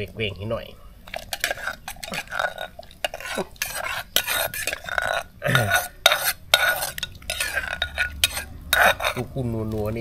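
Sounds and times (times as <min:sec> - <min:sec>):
metal spoon scraping clay mortar: 0:01.0 - 0:10.0.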